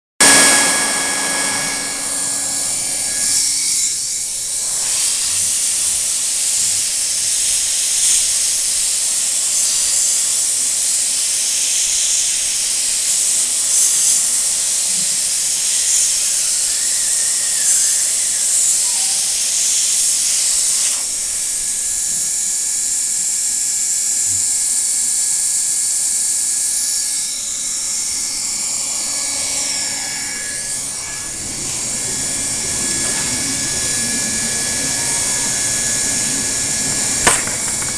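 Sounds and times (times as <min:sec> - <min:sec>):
steady loud hiss: 0:00.2 - 0:37.9.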